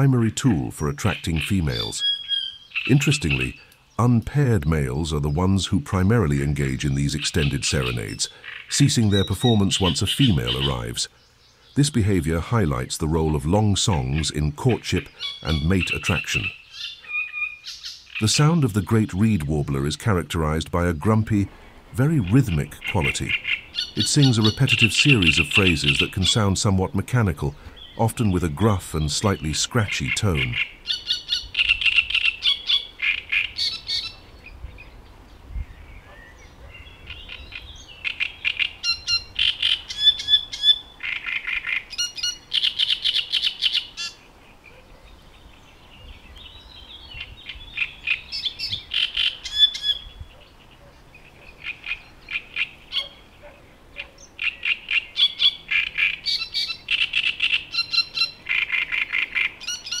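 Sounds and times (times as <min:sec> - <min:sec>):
warbler singing harsh notes: 0:00.0 - 0:35.0, 0:35.6 - 1:00.0.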